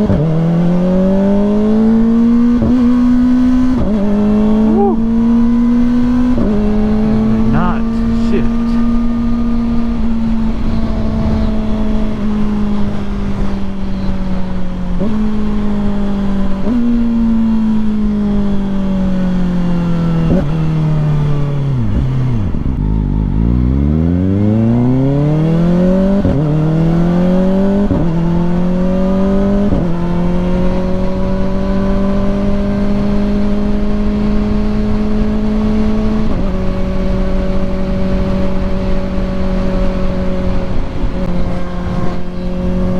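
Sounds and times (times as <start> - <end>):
motorcycle engine revving and shifting: 0.0 - 42.9.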